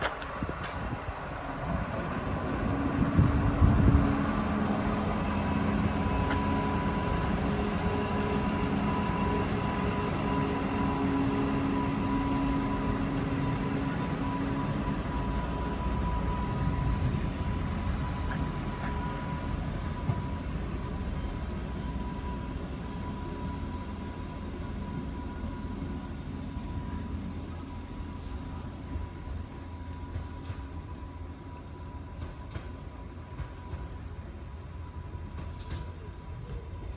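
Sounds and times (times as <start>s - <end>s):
diesel train engine drone: 0.0s - 36.9s
rail rumble: 0.0s - 36.9s.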